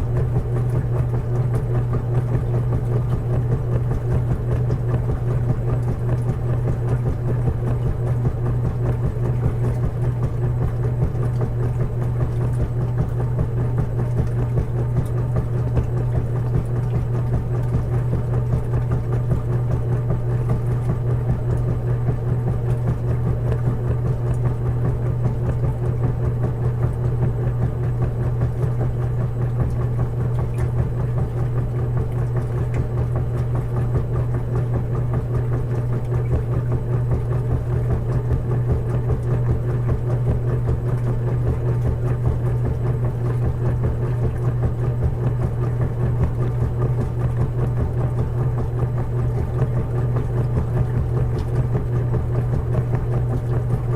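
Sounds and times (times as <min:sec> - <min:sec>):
washing machine running: 0:00.0 - 0:53.9.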